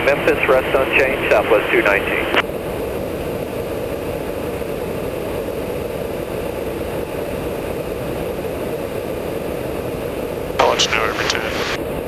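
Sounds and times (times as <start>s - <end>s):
aircraft cabin airflow and engine: 0.0s - 12.0s.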